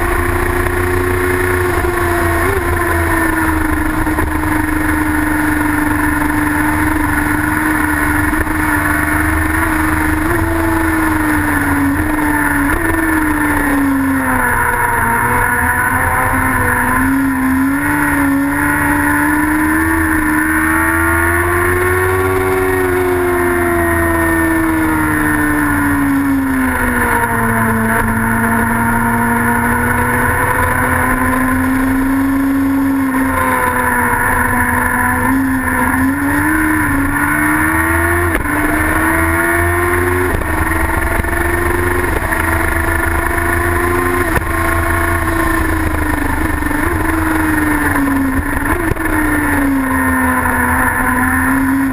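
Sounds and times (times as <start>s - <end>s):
racing engine running hard: 0.0s - 51.9s.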